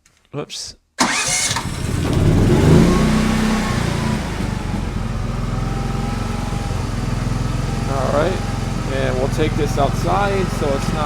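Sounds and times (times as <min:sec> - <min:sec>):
generator engine running: 0:01.0 - 0:11.0.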